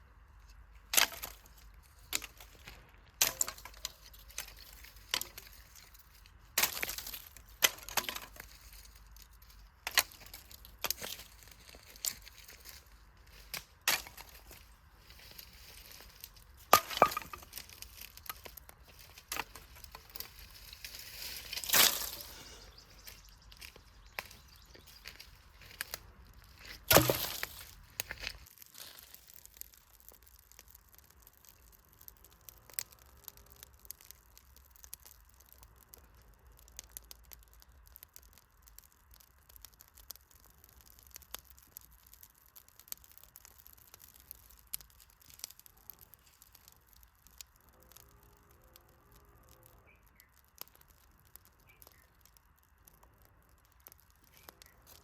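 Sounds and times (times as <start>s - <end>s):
campfire crackling and snapping: 0.3s - 55.0s.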